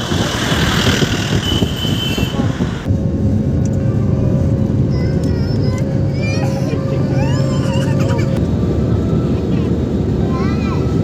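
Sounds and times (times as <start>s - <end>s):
motor vehicle running: 0.0s - 11.0s.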